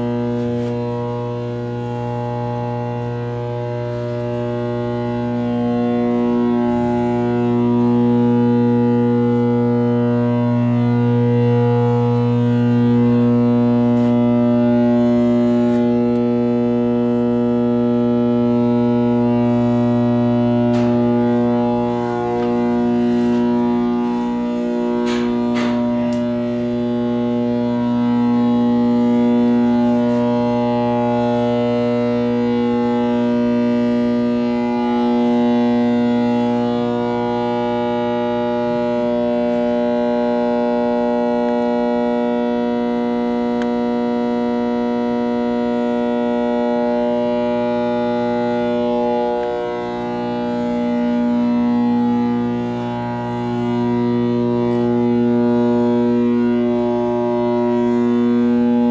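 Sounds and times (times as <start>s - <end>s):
engine room machinery drone: 0.0s - 58.9s.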